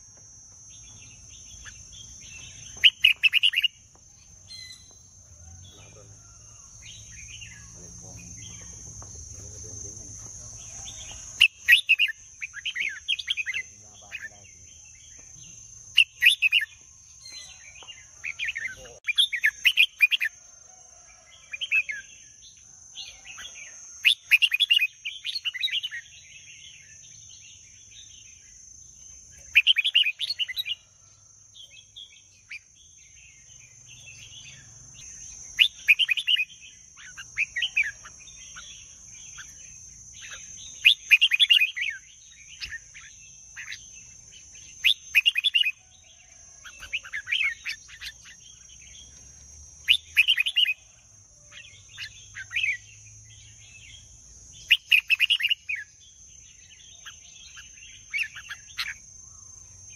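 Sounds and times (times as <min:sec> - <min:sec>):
bulbul singing: 0:00.0 - 0:20.4, 0:21.2 - 0:59.9.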